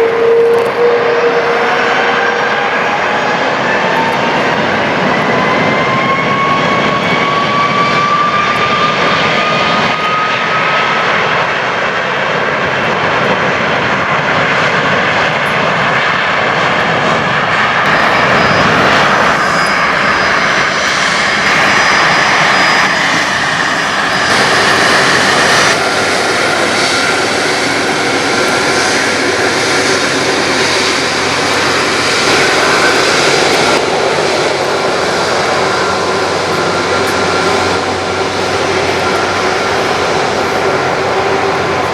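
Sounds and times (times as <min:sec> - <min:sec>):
airliner engines roaring: 0:00.0 - 0:41.9.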